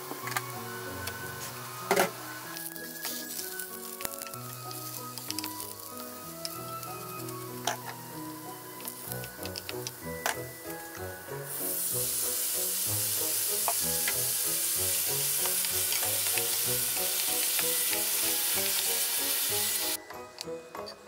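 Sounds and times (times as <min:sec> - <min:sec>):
sauce sizzling in a frying pan: 0:00.0 - 0:20.0.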